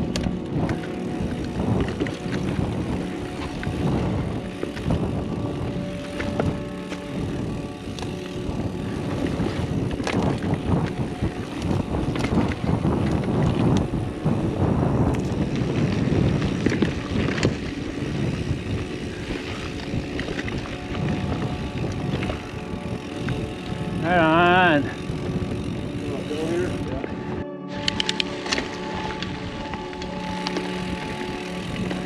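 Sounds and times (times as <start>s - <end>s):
tyres rumbling over dirt trail: 0.0s - 26.9s, 28.2s - 32.0s
bike rattling: 0.0s - 32.0s
wind on microphone: 0.0s - 32.0s.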